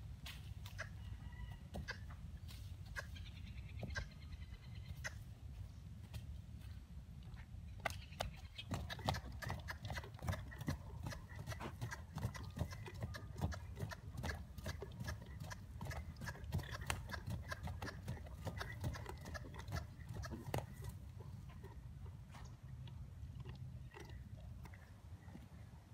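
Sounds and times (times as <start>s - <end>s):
horse hooves trotting on dirt: 4.9s - 25.9s.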